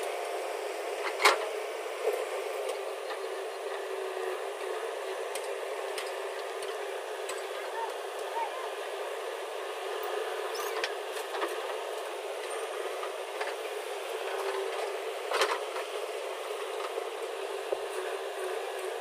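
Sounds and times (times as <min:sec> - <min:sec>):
construction machinery running: 0:00.0 - 0:19.0.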